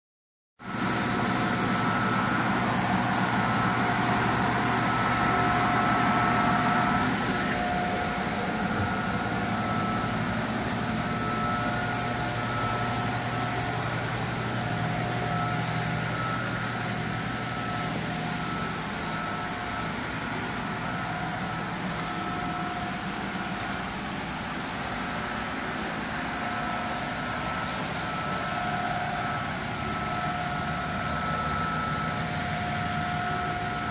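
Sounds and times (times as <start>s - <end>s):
mechanical hum and hiss: 0.7s - 33.9s
faint high tones: 1.6s - 33.9s.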